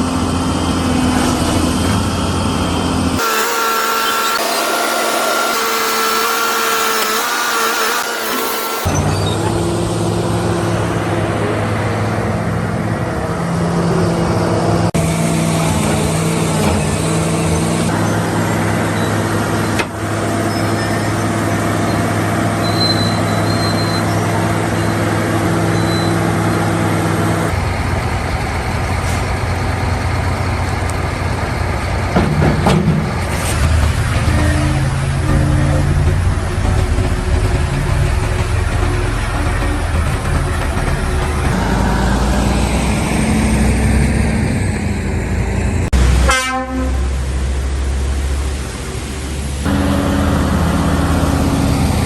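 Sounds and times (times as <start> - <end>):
diesel engine humming: 0.0 - 52.0
rough engine noise: 0.0 - 52.0.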